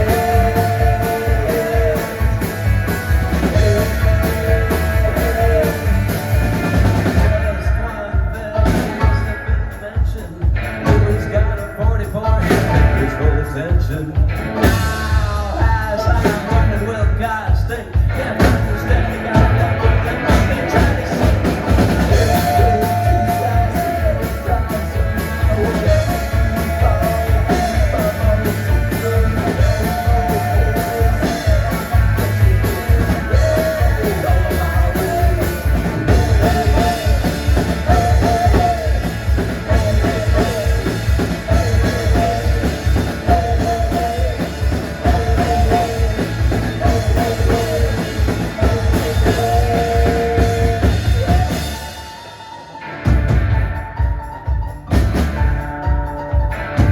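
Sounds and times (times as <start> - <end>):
drum kit beat: 0.0 - 56.9
live rock band playing: 0.0 - 56.9
person singing: 0.0 - 56.9.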